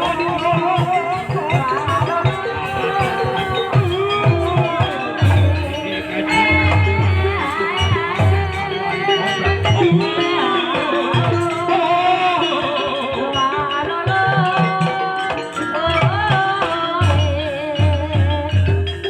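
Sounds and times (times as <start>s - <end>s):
hand drum beats: 0.0s - 19.0s
person singing: 0.0s - 19.0s
pitched percussion: 0.0s - 19.0s.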